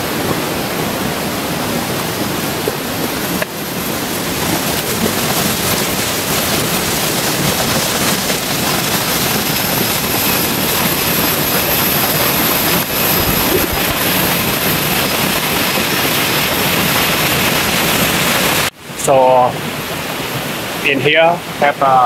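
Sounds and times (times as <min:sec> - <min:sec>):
waterfall rushing and splashing: 0:00.0 - 0:22.0.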